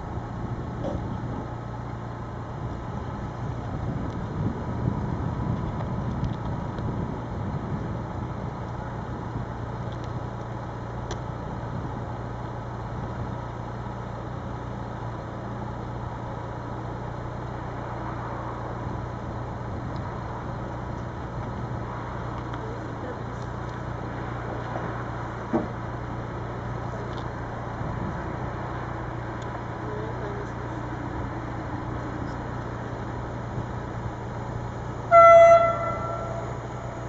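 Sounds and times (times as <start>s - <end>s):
electric train hum and rumble: 0.0s - 37.0s
outdoor background noise: 0.0s - 37.0s.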